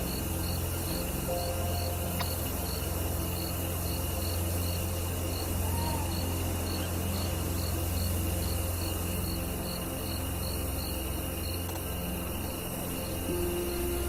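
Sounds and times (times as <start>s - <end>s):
cricket chirping: 0.0s - 14.0s
low drone: 0.0s - 14.0s.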